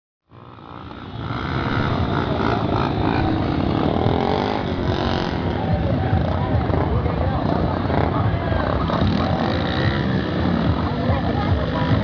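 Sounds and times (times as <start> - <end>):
motorcycle engine running: 0.3 - 12.0.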